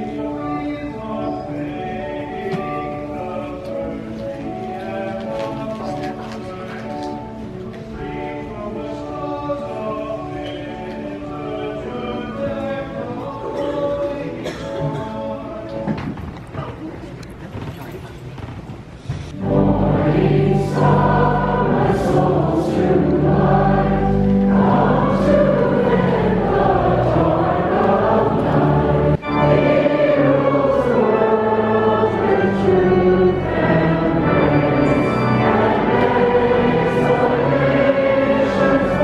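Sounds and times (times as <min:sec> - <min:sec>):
congregation singing a hymn: 0:00.0 - 0:16.0, 0:19.3 - 0:39.0.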